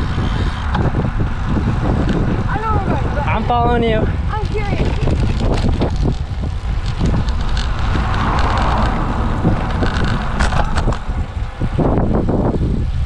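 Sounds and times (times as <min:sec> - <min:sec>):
tyres rumbling on rough asphalt: 0:00.0 - 0:13.0
wind buffeting microphone: 0:00.0 - 0:13.0.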